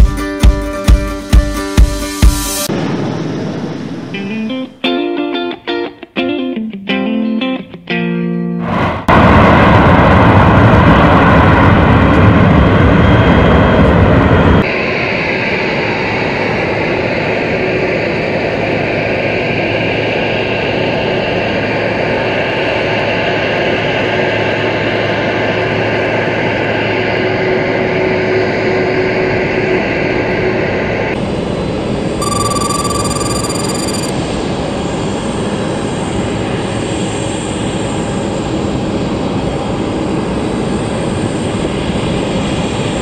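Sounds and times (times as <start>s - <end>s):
jet engines running: 2.6s - 5.5s, 8.6s - 43.0s.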